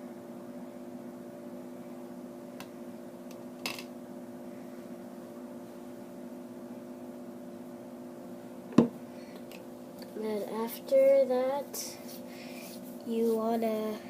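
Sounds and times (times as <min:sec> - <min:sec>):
appliance fan hum: 0:00.0 - 0:14.0.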